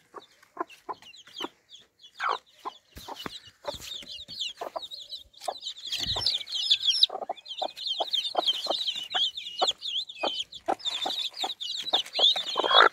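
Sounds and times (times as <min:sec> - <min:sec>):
chicks peeping: 0:00.0 - 0:12.9
hen clucking: 0:00.0 - 0:12.9.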